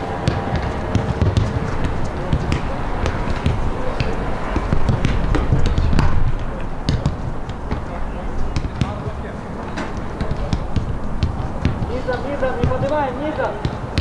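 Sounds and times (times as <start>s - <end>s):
footballs being kicked: 0.0s - 14.0s.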